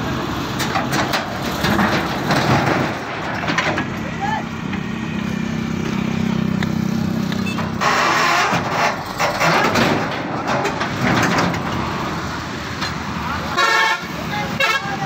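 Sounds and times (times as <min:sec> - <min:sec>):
diesel engine running under load: 0:00.0 - 0:15.0
grinding crunching metal: 0:00.0 - 0:15.0.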